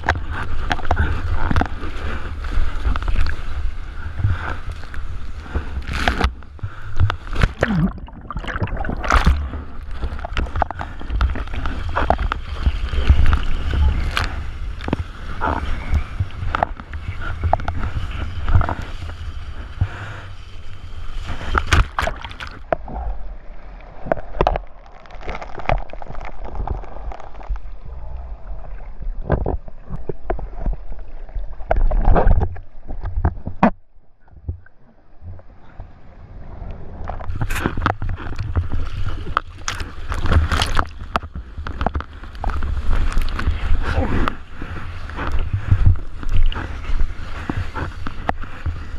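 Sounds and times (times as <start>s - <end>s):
water splashing against camera: 0.0s - 23.2s, 23.8s - 35.5s, 36.9s - 48.9s.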